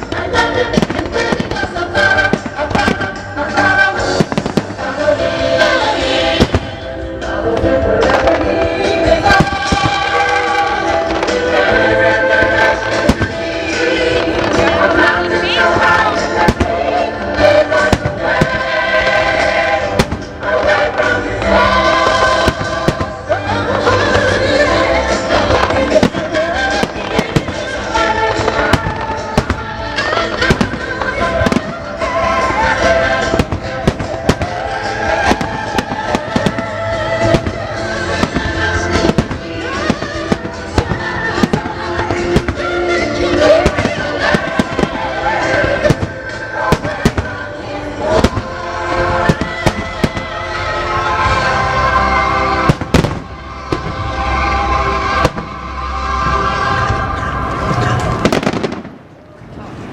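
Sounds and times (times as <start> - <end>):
choir singing musical-theatre music: 0.0 - 58.8
fireworks bangs and crackles: 0.0 - 59.9.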